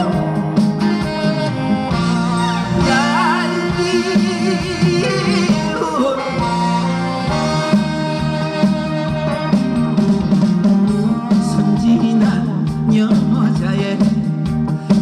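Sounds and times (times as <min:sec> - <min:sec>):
guitar: 0:00.0 - 0:15.0
steady drum beat: 0:00.0 - 0:15.0
trot music over sound system: 0:00.0 - 0:15.0.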